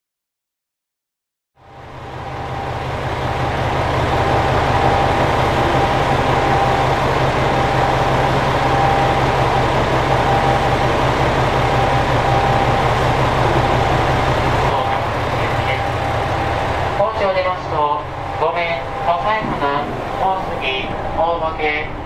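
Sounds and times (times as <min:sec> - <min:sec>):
diesel railcar engines idling: 0:01.6 - 0:22.0.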